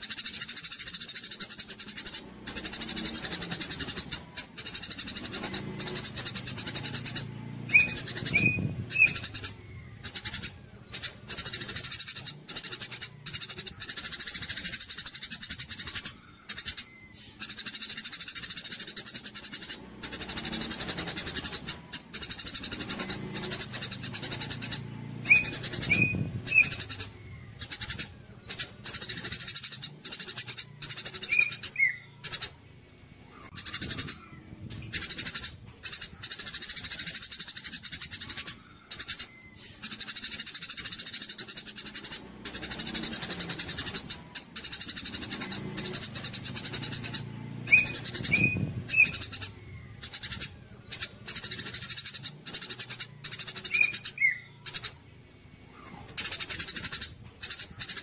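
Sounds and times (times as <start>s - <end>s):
lower bird chirps: 0.0s - 58.0s
songbird high-pitched trills: 0.0s - 58.0s.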